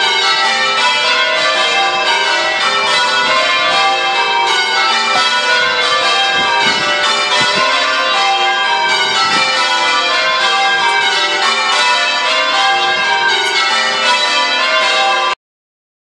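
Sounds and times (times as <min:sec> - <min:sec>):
church bells pealing: 0:00.0 - 0:15.4.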